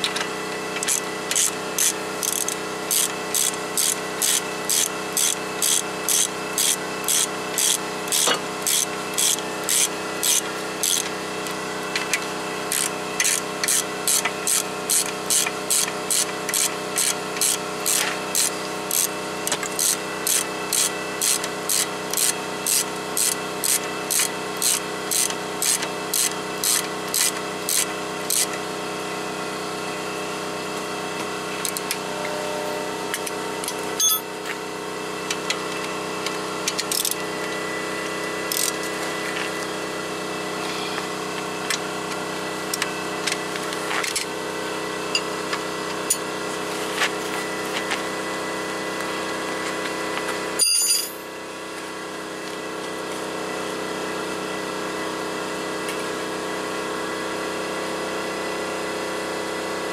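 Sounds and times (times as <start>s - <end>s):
motor hum: 0.0s - 54.0s.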